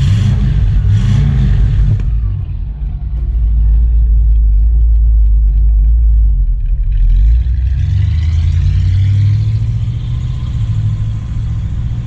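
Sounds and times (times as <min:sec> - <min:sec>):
car engine idling deeply: 0:00.0 - 0:12.0
car engine revving: 0:00.0 - 0:12.0.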